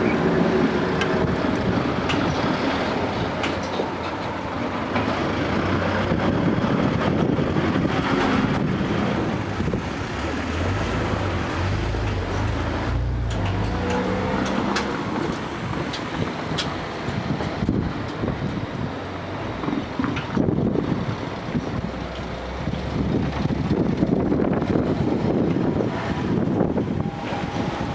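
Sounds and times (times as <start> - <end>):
diesel railcar passing: 0.0 - 27.9
low engine rumble: 0.0 - 27.9
wheel-on-rail noise: 0.0 - 27.9.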